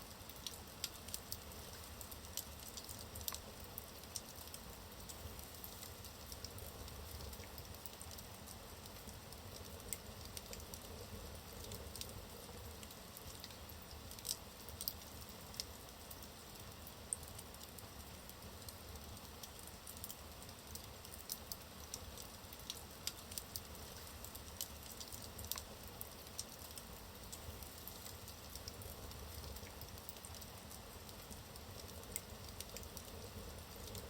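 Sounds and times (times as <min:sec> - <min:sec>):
wood fire crackling and popping: 0:00.2 - 0:34.0.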